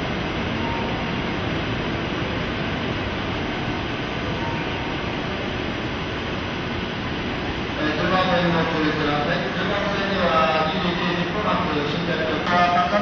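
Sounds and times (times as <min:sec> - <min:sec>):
train rumbling and hissing: 0:00.0 - 0:13.0.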